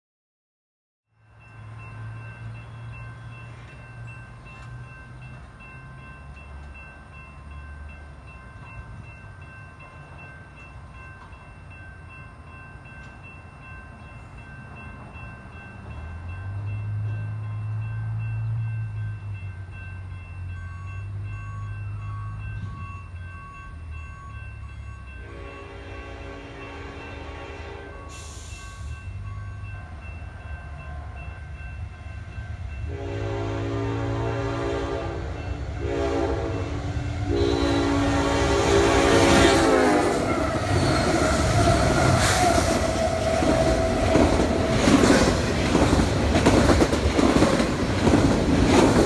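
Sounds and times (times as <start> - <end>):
diesel locomotive engine rumble: 1.2 - 49.0.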